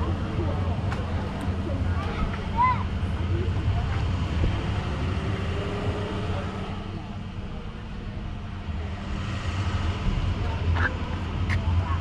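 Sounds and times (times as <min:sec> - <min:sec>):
faint voices: 0:00.0 - 0:12.0
vehicles rumbling: 0:00.0 - 0:12.0.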